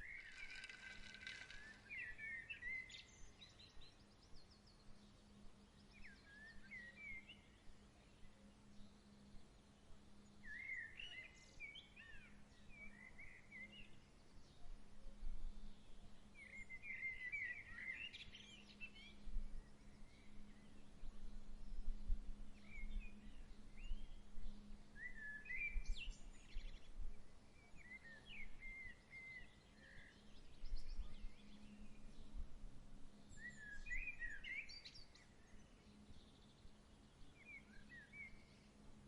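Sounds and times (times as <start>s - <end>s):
soft breeze: 0.0s - 39.0s
songbirds chirping: 0.0s - 39.0s.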